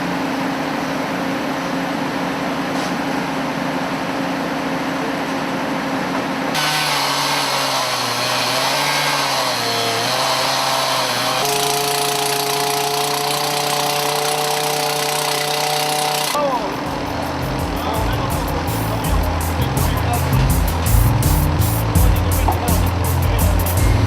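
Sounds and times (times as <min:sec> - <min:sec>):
machinery humming and whining: 0:00.0 - 0:24.0.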